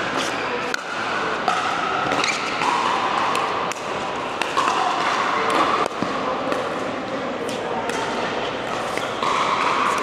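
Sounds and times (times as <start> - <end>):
busy hall noise: 0.0 - 10.0.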